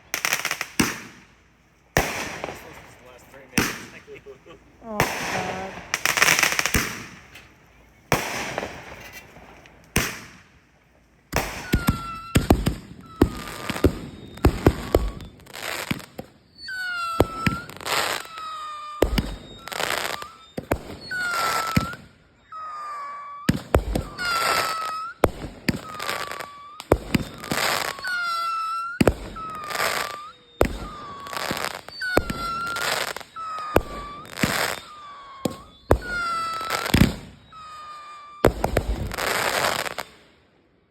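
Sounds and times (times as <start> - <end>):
fireworks bangs and crackling: 0.0 - 40.6
firework shots whistling: 0.0 - 40.9.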